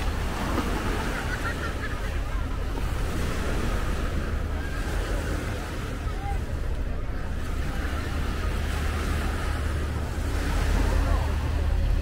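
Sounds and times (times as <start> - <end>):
faint distant voices: 0.0 - 12.0
sea surf washing on shore: 0.0 - 12.0.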